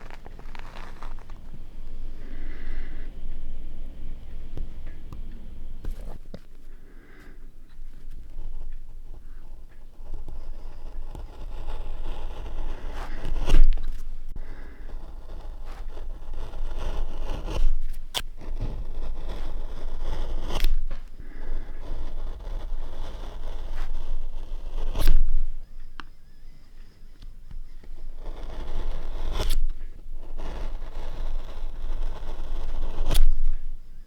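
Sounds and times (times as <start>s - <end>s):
gouge scraping linoleum: 0.0s - 34.0s.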